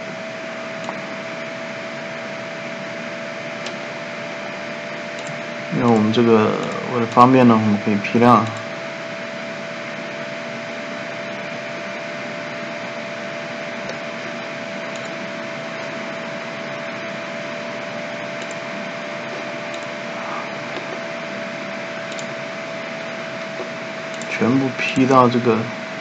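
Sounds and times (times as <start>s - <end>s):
constant hum: 0.0s - 26.0s.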